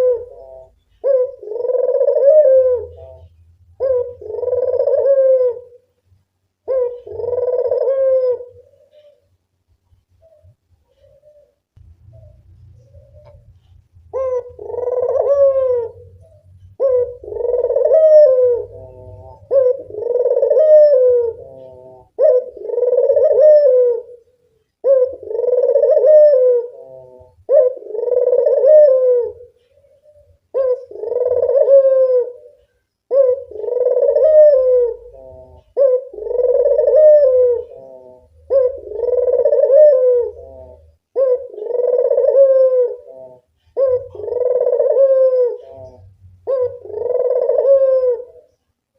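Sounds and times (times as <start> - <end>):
collared dove cooing: 0.0 - 48.7.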